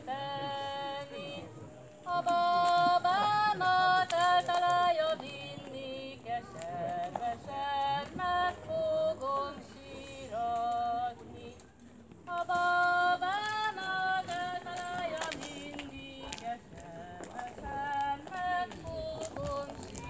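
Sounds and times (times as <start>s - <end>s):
women singing folk song: 0.0s - 20.0s.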